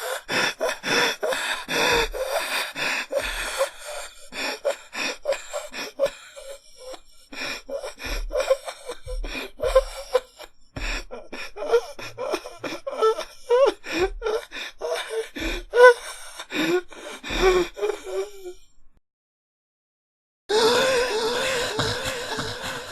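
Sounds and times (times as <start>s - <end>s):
person gasping and panting: 0.0s - 18.6s, 20.5s - 22.9s.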